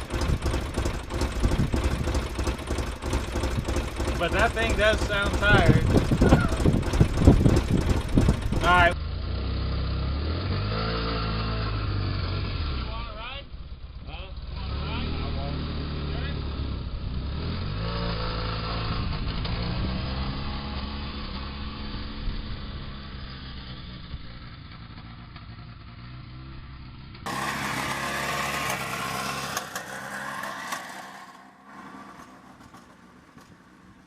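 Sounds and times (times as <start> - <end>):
utility vehicle engine revving: 0.0 - 13.1, 14.4 - 33.7.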